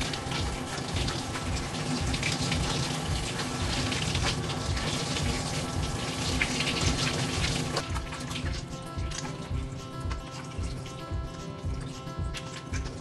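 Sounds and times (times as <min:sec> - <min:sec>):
shower sprayer spraying water: 0:00.0 - 0:13.0.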